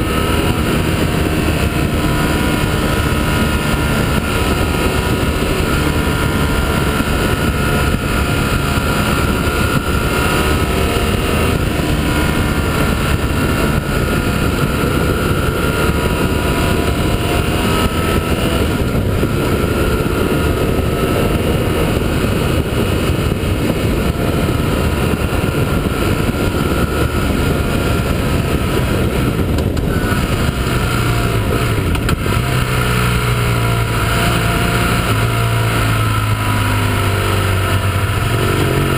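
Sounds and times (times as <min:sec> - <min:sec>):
motorcycle engine: 0:00.0 - 0:38.9
wind rush on microphone: 0:00.0 - 0:38.9.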